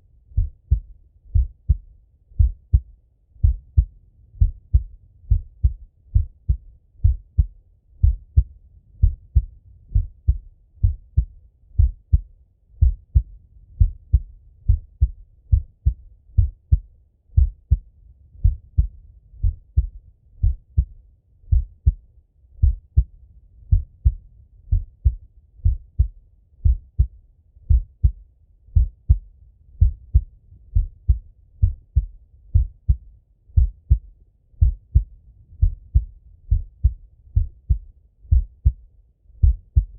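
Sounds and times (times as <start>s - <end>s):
heartbeat through stethoscope: 0.3s - 22.0s, 22.6s - 39.9s.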